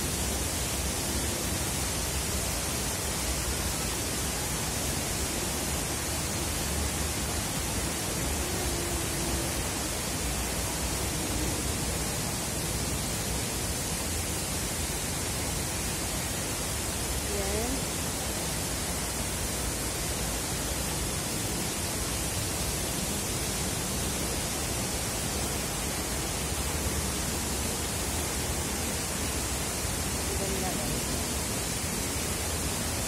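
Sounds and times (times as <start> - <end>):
waterfall pouring into pond: 0.0 - 33.0.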